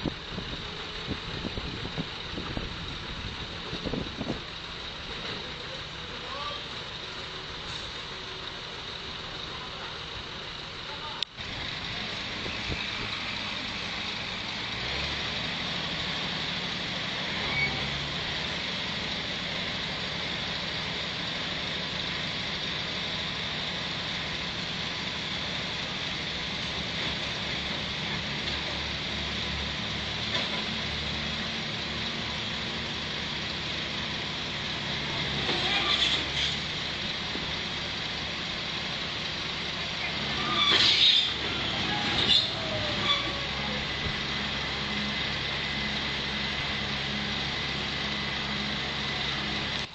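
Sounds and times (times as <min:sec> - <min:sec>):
piling rig engine under load: 0:00.0 - 0:49.9.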